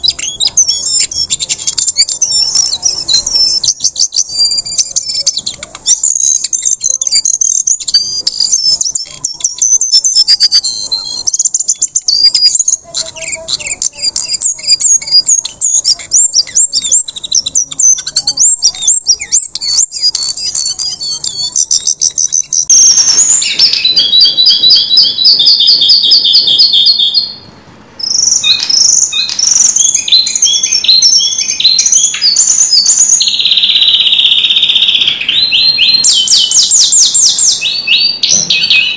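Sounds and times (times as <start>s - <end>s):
bird singing rapid chirps and trills: 0.0s - 38.9s.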